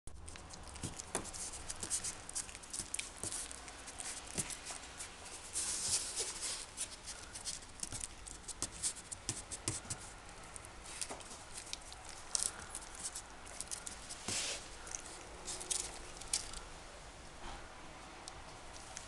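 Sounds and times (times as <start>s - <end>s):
puppy nibbling fingers: 0.2s - 16.7s.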